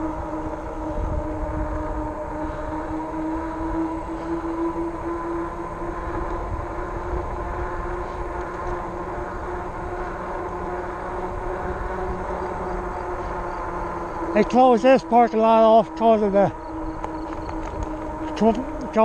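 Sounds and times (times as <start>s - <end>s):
electric motor whine: 0.0s - 19.0s
fat tires rolling on pavement: 0.0s - 19.0s
wind rumble: 0.0s - 19.0s.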